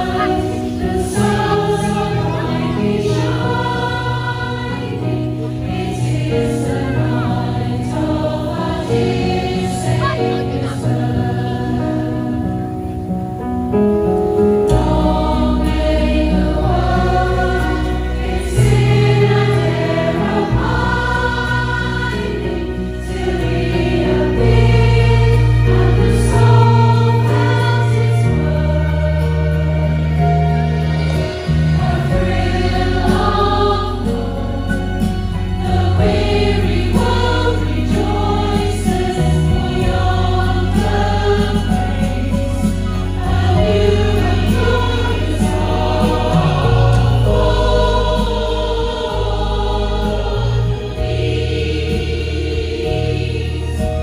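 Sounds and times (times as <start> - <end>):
choir singing: 0.0 - 54.0
low musical accompaniment: 0.0 - 54.0.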